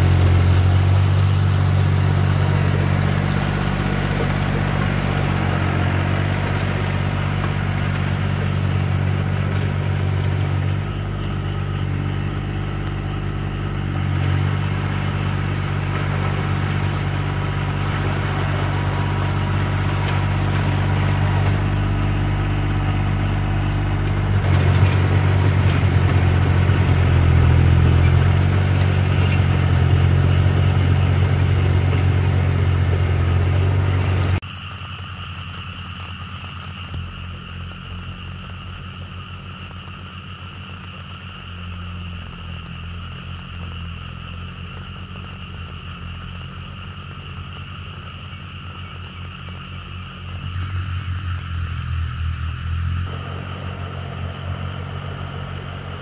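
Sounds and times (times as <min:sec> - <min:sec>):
tiller churning water: 0:00.0 - 0:49.0, 0:53.1 - 0:56.0
tractor engine running: 0:00.0 - 0:56.0.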